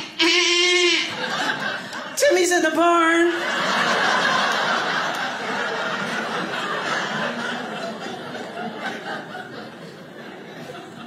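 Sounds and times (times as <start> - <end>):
audience laughing: 0.7 - 11.0.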